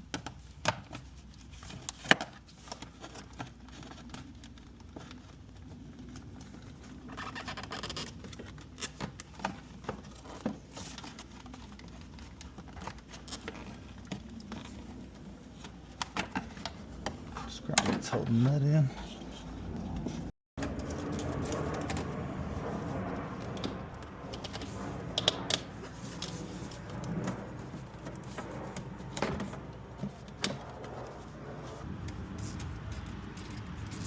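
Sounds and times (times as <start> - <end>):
rustling and scraping: 0.3 - 34.0.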